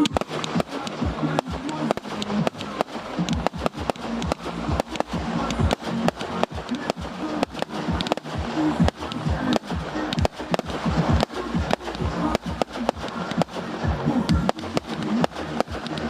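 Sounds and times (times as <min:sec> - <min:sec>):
fireworks bangs and cracks: 0:00.0 - 0:16.0
music playing: 0:00.0 - 0:16.0.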